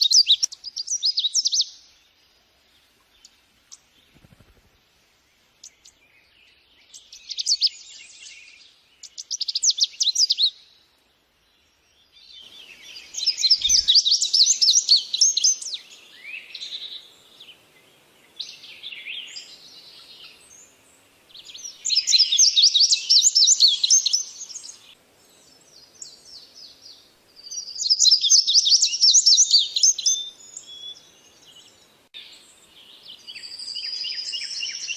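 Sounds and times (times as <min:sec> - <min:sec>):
birds twittering: 0:00.0 - 0:34.9
quiet bird calls: 0:00.0 - 0:34.9.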